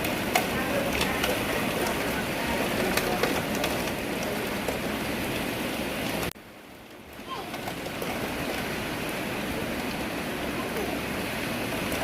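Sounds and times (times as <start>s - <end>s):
heavy rain falling: 0.0s - 12.0s
raindrops ticking on surfaces: 0.0s - 12.0s.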